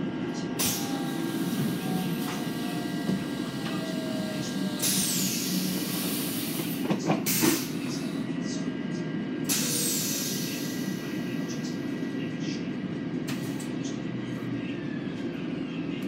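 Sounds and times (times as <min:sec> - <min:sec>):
electric train rumble with whine: 0:00.0 - 0:16.0.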